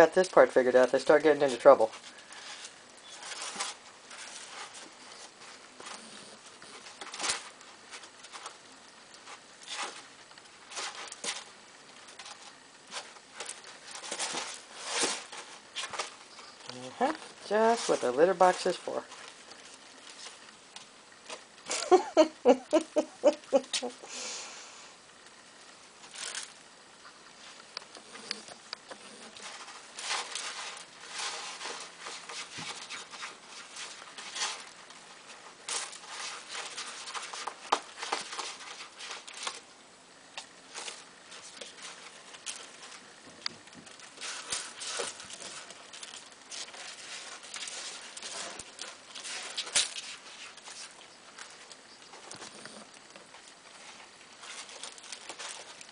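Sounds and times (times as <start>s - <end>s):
kittens scratching in cat litter: 0.0s - 55.9s.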